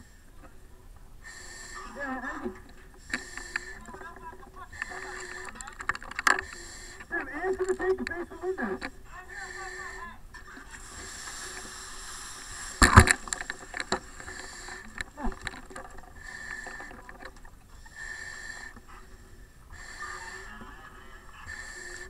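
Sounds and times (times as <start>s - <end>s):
breathing through mask regulator: 0.0s - 22.0s.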